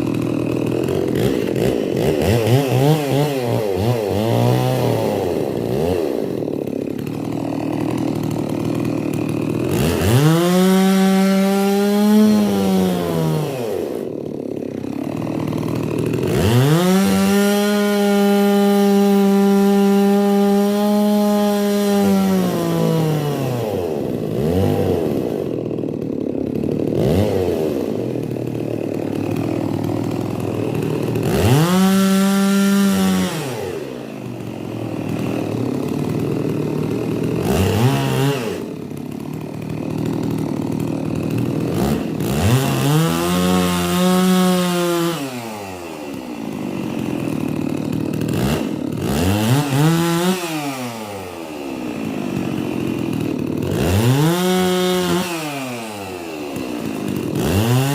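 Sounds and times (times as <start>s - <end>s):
chainsaw revving: 0.0s - 57.9s.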